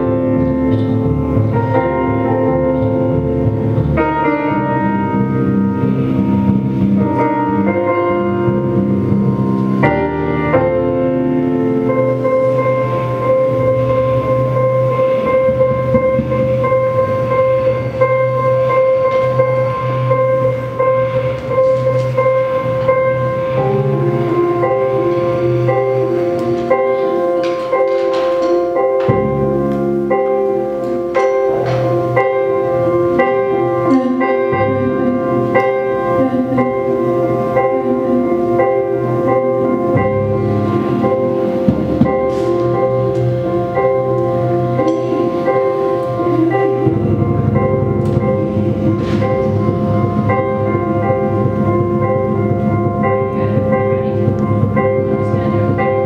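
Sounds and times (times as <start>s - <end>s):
low bass notes: 0.0s - 56.0s
stepped keyboard notes: 0.0s - 56.0s
synthesizer drone: 0.0s - 56.0s.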